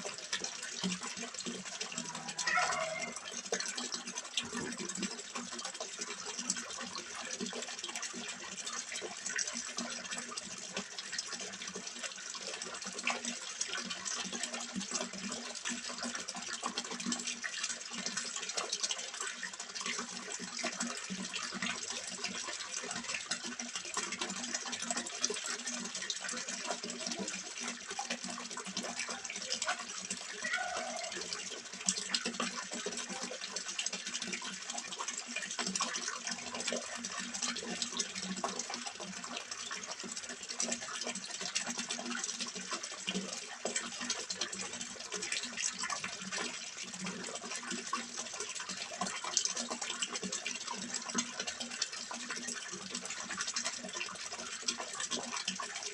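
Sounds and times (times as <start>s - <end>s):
water splashing into pond: 0.0s - 55.9s.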